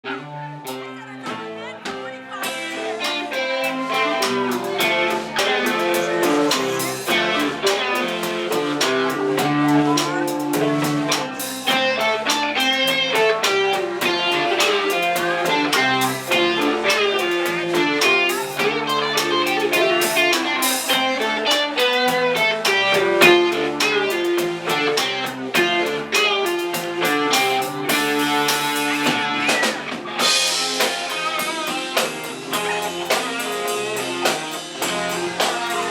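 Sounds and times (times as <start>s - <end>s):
electric guitar lines: 0.0s - 35.9s
drum kit and cymbals: 0.6s - 35.9s.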